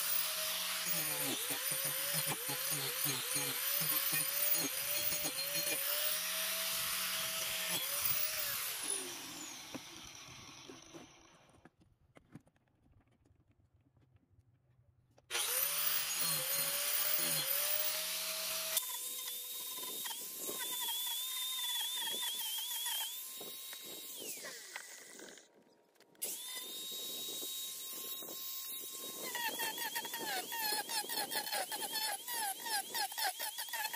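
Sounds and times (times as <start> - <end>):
angle grinder grinding wood: 0.0 - 11.5, 15.3 - 25.6, 26.2 - 33.9.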